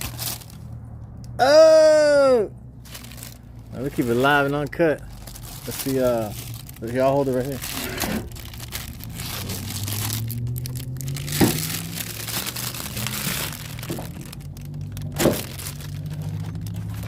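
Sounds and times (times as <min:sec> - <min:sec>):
rubber bushing scraping and crinkling: 0:02.8 - 0:17.0.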